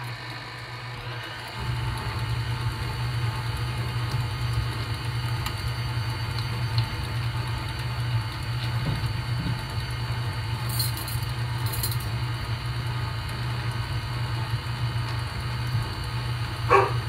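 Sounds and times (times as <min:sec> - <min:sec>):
stand mixer running: 0:00.0 - 0:17.0.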